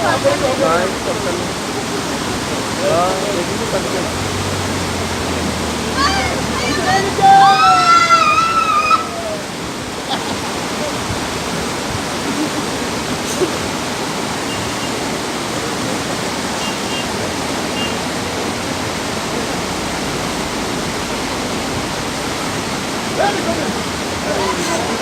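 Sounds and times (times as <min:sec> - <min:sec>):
fast river rushing: 0:00.0 - 0:25.0.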